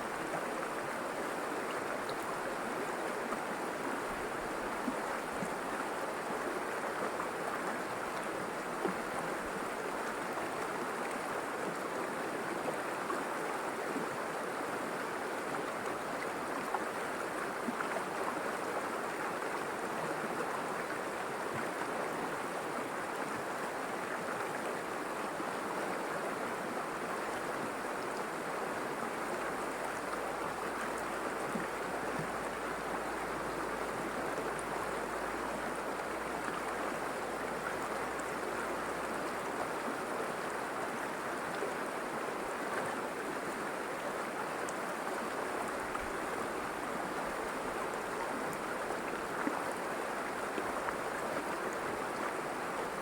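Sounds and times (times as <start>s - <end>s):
river water running over rocks: 0.0s - 53.0s.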